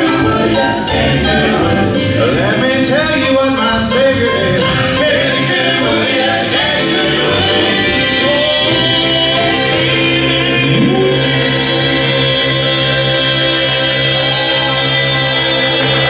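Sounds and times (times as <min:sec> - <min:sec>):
keyboard accompaniment: 0:00.0 - 0:16.0
male quartet singing in harmony: 0:00.0 - 0:16.0.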